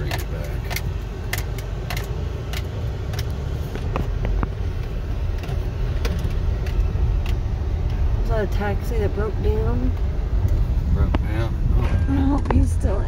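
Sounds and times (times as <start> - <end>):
sharp clicks and rattles: 0.0 - 12.8
car driving over rough road: 0.0 - 13.0.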